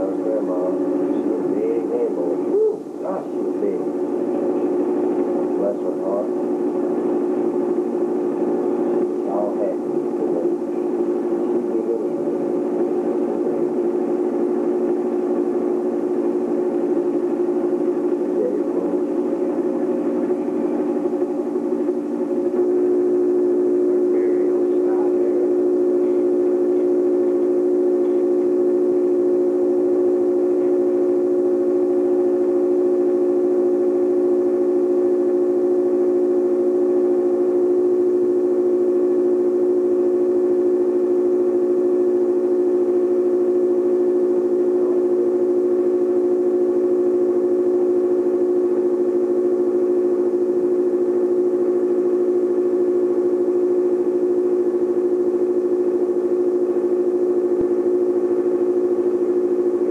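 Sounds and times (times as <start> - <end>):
film projector running hum: 0.0 - 59.9.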